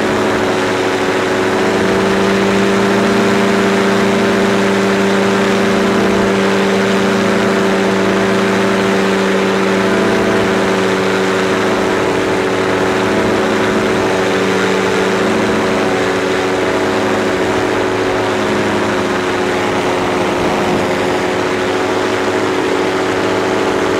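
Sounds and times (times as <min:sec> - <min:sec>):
engine and propeller drone: 0:00.0 - 0:23.9.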